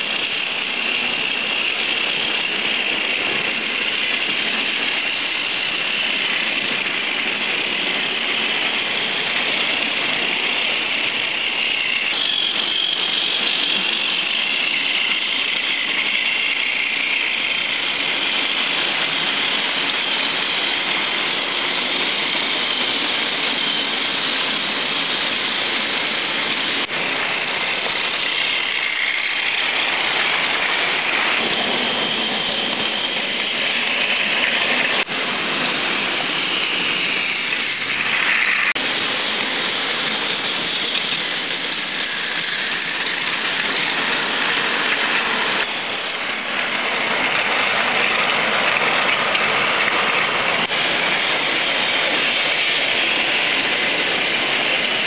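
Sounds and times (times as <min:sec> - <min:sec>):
toy train motors whirring: 0:00.0 - 0:55.0
wheels rattling on plastic track: 0:00.0 - 0:55.0.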